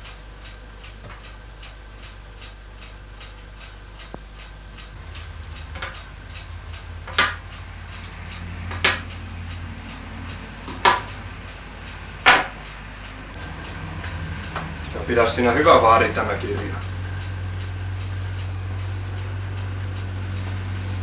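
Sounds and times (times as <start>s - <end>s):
clock-like ticking: 0.0s - 21.0s.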